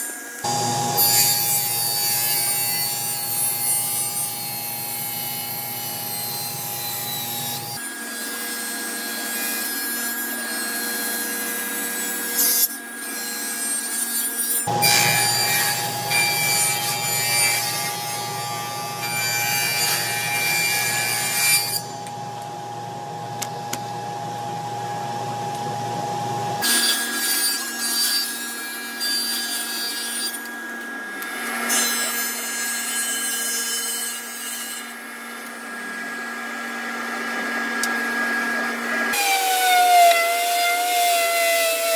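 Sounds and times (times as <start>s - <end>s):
table saw cutting wood: 0.0s - 41.9s.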